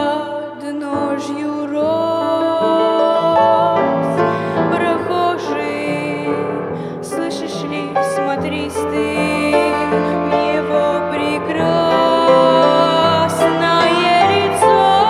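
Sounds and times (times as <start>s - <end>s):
slow hymn on piano: 0.0s - 15.0s.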